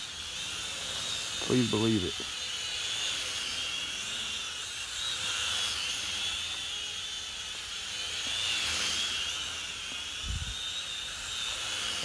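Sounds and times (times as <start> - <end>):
toy quadcopter whining: 0.0 - 12.0.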